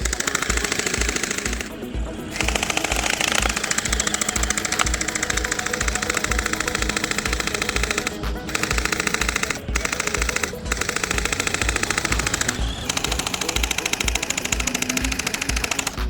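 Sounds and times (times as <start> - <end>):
background music with steady beat: 0.0 - 16.0
toy blaster rapid-fire shots: 0.0 - 16.0.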